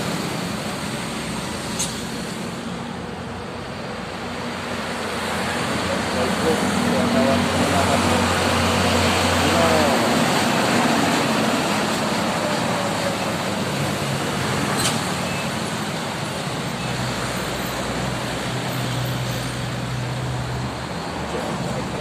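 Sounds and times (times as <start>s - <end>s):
heavy vehicle engines droning: 0.0s - 22.0s.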